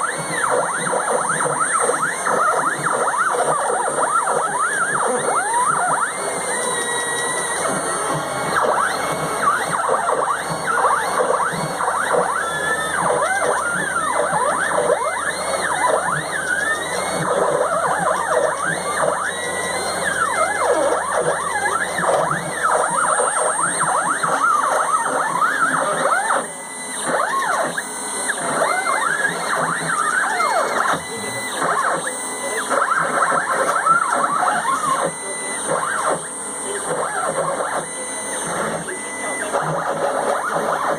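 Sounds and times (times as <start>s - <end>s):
steady high whine: 0.0s - 40.9s
stepper motors whining: 0.0s - 40.9s.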